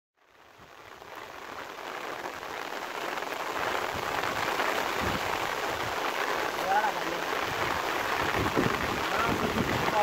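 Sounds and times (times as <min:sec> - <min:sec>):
rain pattering: 0:00.2 - 0:10.0.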